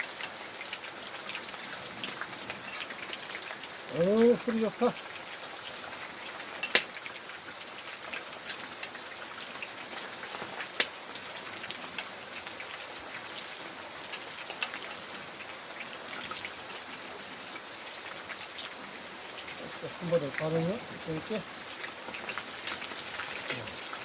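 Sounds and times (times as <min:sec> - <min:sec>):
fish deep-frying in oil: 0:00.0 - 0:24.0.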